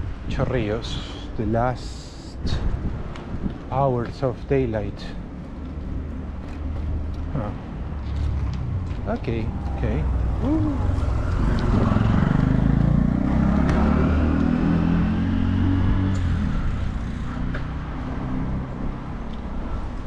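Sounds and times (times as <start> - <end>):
rushing noise of bicycle ride: 0.0 - 20.0.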